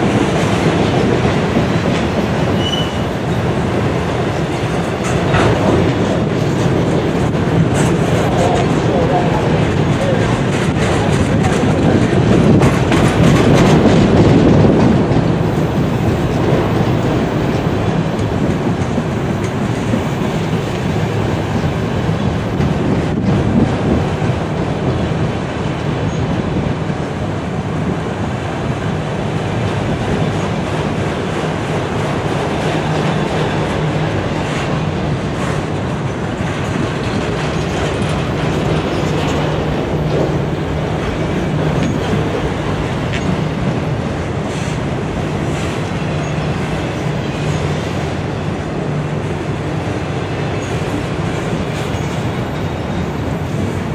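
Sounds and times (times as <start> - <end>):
steel wheels on rail: 0.0 - 53.9.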